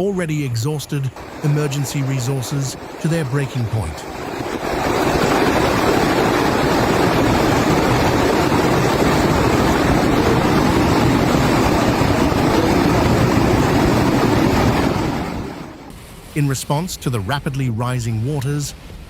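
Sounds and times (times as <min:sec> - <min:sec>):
rushing floodwater: 0:00.0 - 0:19.0.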